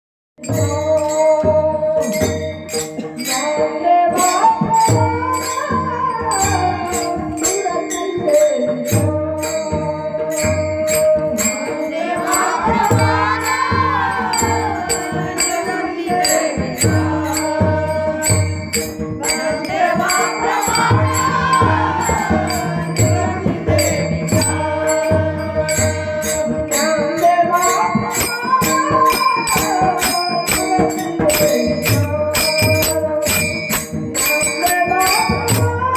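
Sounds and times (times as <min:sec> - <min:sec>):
jingling percussion: 0:00.4 - 0:35.9.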